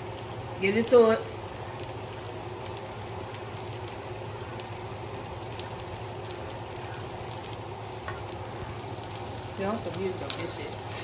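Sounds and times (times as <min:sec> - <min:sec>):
small pops and crackles: 0:00.0 - 0:00.5, 0:01.3 - 0:11.0
food sizzling in a pan: 0:00.0 - 0:11.0.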